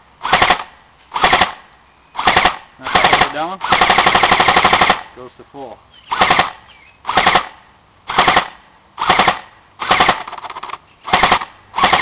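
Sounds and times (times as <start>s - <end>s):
electric airsoft gun bursts: 0.2s - 1.6s, 2.2s - 5.1s, 6.1s - 12.0s.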